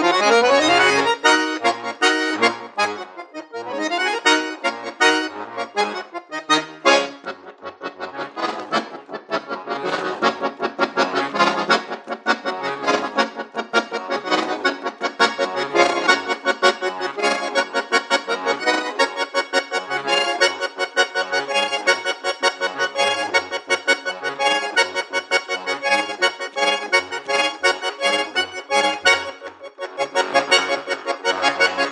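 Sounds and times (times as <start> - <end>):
accordion playing fast notes: 0.0 - 31.9.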